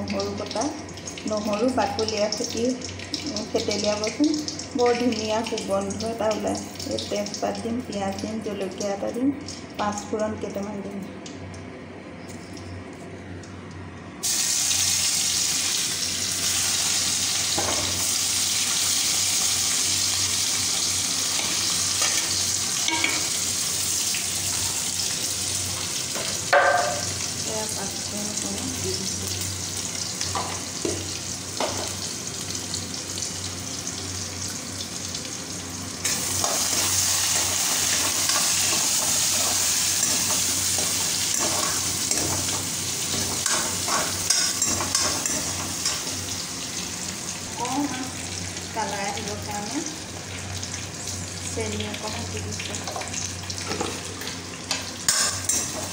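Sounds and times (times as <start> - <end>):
spices sizzling in hot oil: 0.0 - 10.4, 14.2 - 55.9.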